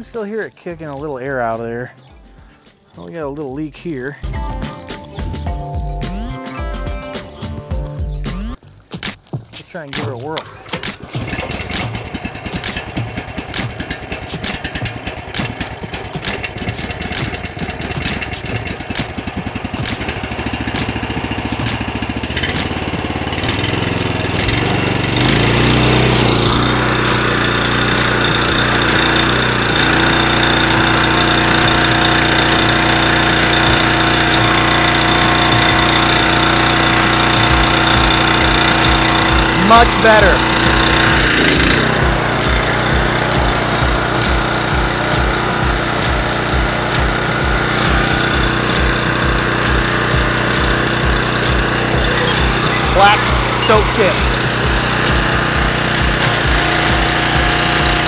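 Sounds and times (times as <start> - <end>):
pressure washer engine running: 10.2 - 58.0.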